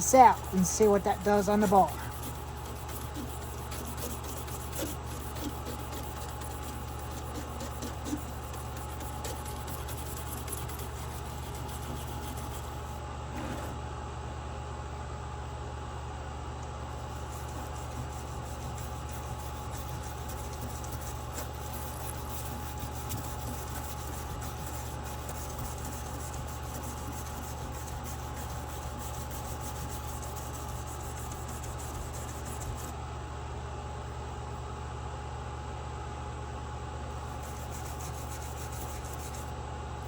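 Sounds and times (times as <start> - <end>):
thin steady whine: 0.0 - 13.8, 14.7 - 34.9, 37.1 - 40.0
low mechanical hum: 0.0 - 40.0.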